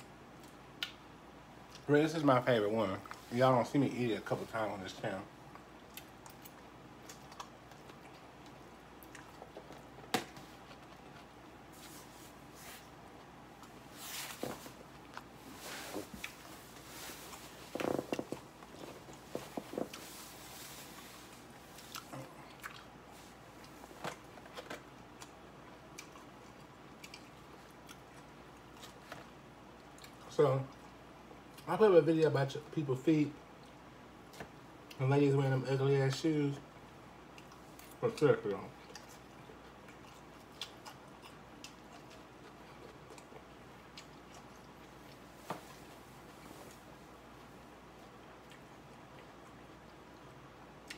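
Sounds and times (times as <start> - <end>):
chewing and crunching salad: 0.0 - 1.9, 4.3 - 31.8, 33.4 - 50.9
low room hush: 0.0 - 50.9.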